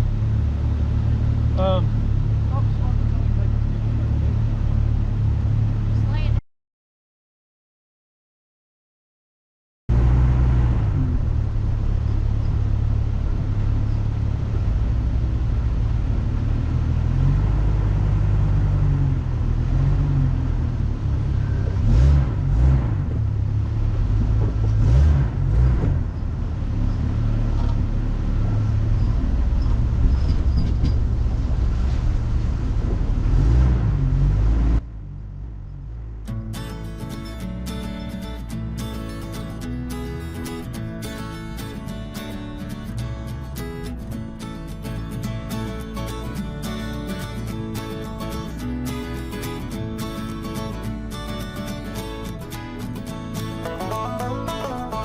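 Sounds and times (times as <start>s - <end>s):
off-road vehicle engine rumbling: 0.0s - 6.4s, 9.9s - 55.0s.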